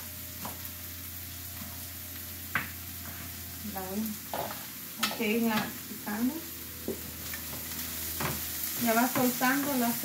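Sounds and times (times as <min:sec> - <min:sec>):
onion sizzling in a pan: 0:00.0 - 0:10.0.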